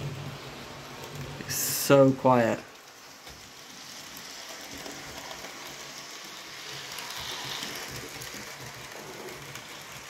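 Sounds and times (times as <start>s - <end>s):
model train whirring on rails: 0.0s - 10.0s.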